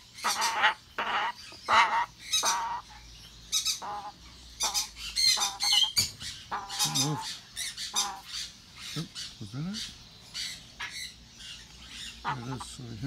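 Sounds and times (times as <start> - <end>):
parrot squawking: 0.0 - 12.8.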